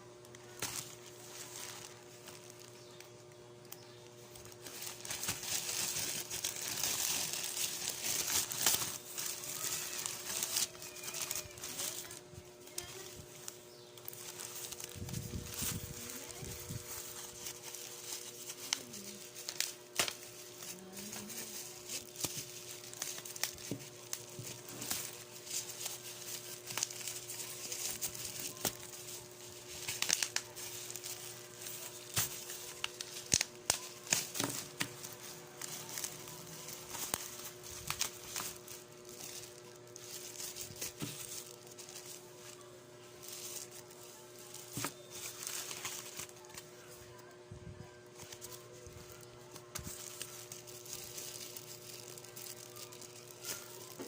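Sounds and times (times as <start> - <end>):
faint steady hum: 0.0 - 54.0
plastic packaging crinkling and tearing: 0.2 - 54.0.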